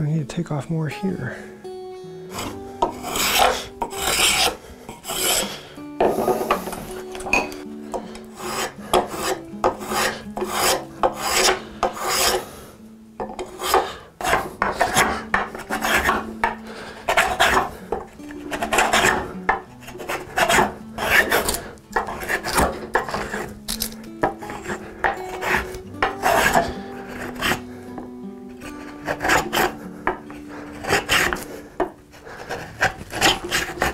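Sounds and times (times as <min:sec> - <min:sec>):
spokeshave rasping on wood: 0:02.3 - 0:12.6, 0:13.2 - 0:33.9.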